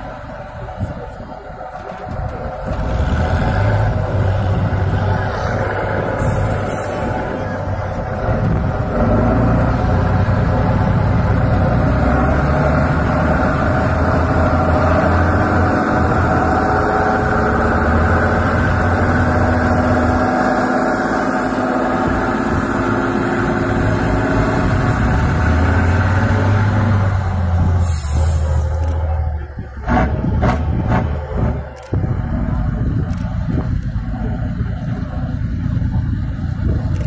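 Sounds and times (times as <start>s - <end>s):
diesel truck engine under load: 0.0s - 37.0s.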